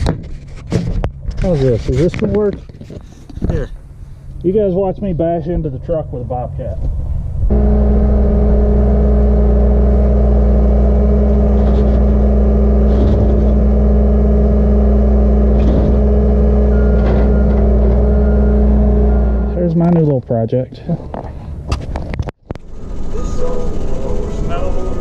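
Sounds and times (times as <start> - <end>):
engine running steadily: 3.2 - 20.0, 20.8 - 25.0.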